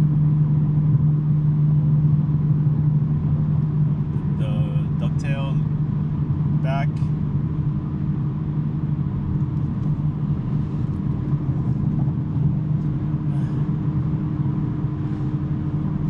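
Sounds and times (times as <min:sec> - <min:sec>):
car engine droning: 0:00.0 - 0:16.0
road and tyre noise: 0:00.0 - 0:16.0.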